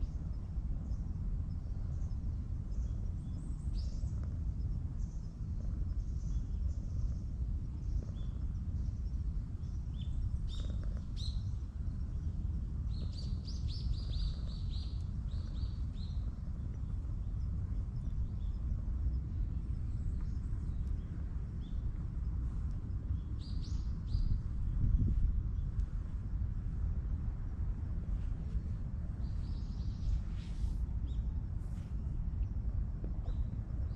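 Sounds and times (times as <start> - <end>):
low outdoor rumble: 0.0 - 33.9
small birds chirping: 0.3 - 26.4, 28.2 - 33.9.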